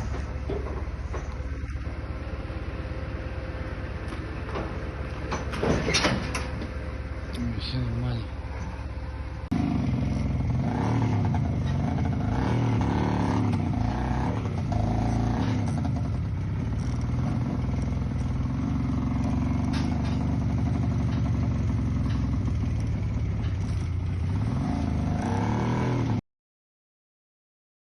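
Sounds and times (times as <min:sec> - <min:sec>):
clatter over rough ground: 0:00.0 - 0:25.3
vehicle engine running: 0:00.0 - 0:26.2.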